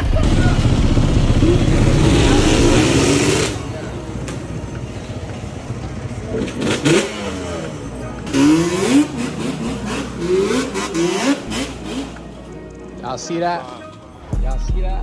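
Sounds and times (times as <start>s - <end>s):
dirt bike engine revving: 0.0s - 13.5s.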